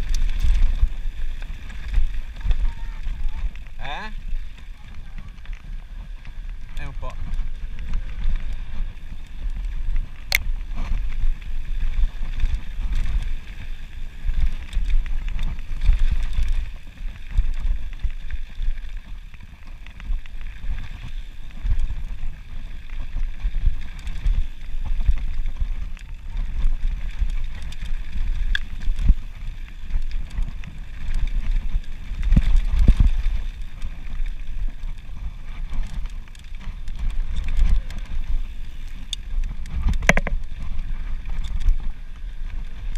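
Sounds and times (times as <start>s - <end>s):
bike rattling: 0.0s - 42.9s
wind buffeting microphone: 0.0s - 42.9s.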